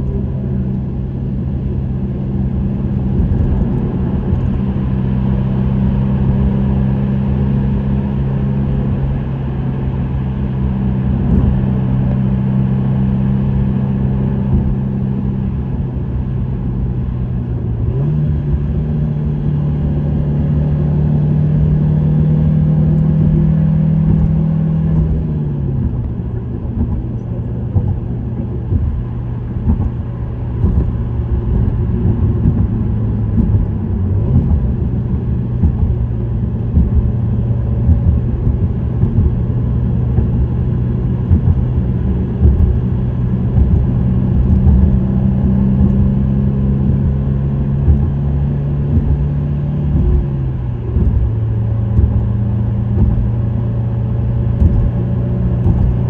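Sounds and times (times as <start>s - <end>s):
car exhaust drone: 0.0s - 56.0s
road noise: 0.0s - 56.0s.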